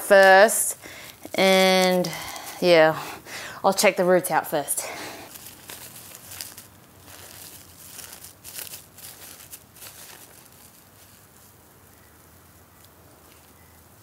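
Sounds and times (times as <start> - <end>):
faint handling noises: 0.0 - 3.2, 3.9 - 13.9
plastic wrapping crinkling: 0.0 - 13.7.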